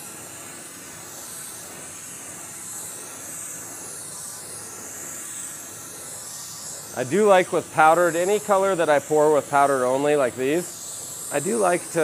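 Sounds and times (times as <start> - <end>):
propane torch hissing: 0.0 - 12.0.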